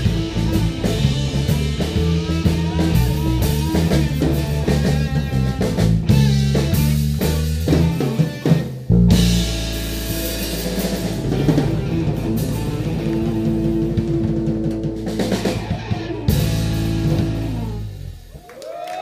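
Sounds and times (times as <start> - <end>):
drumming and cymbals: 0.0 - 18.5
blues band playing: 0.0 - 18.6.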